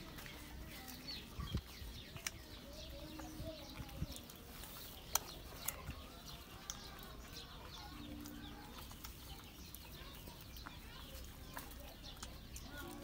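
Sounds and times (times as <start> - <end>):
puppies suckling: 0.0 - 13.0
small birds chirping: 0.0 - 13.0.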